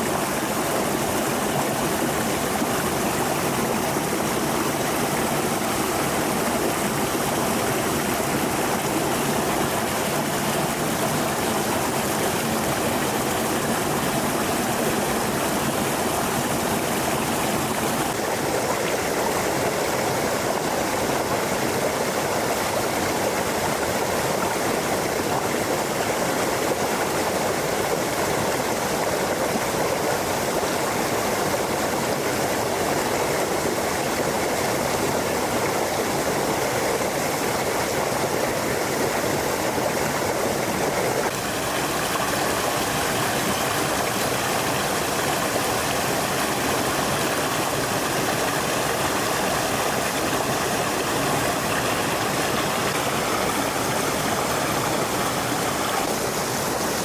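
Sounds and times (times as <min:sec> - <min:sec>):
stream of rushing water: 0:00.0 - 0:57.0.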